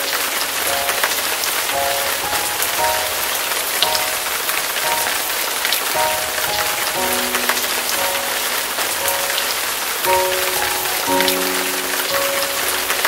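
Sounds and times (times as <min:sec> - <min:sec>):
rain on concrete: 0:00.0 - 0:13.0
soft melody of short notes: 0:00.6 - 0:13.0.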